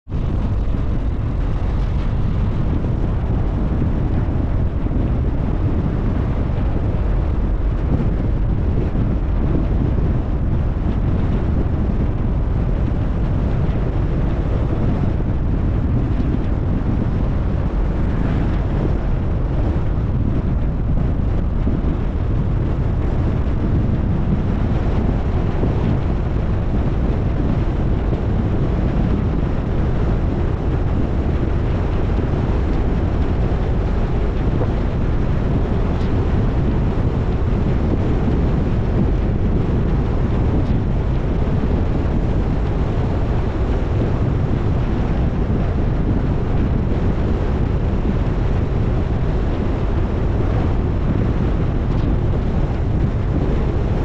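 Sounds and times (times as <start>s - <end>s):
car driving rumble: 0.0s - 54.0s
road and wind noise: 0.0s - 54.0s.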